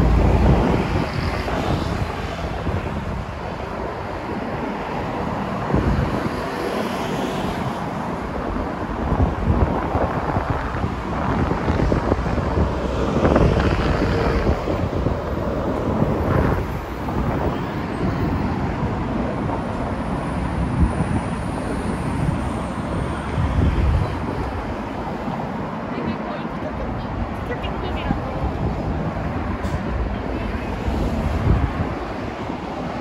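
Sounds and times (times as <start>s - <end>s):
wind buffeting microphone: 0.0s - 6.8s, 7.5s - 33.0s
road traffic: 0.0s - 33.0s
vehicles passing close by: 0.0s - 33.0s.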